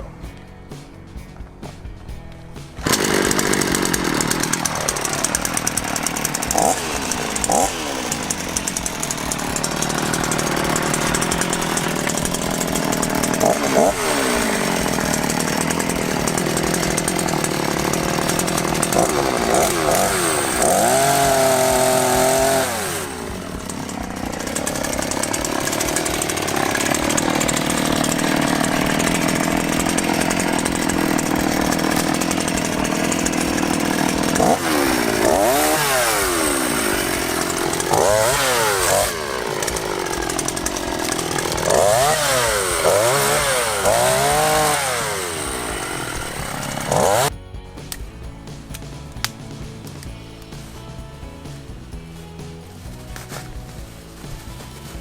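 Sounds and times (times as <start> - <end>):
chainsaw cutting wood: 2.3 - 48.0, 48.6 - 55.0.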